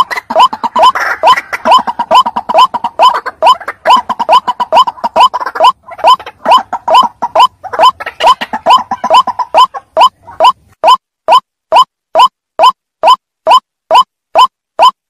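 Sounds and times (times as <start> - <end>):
bird croaking calls: 0.0 - 14.5.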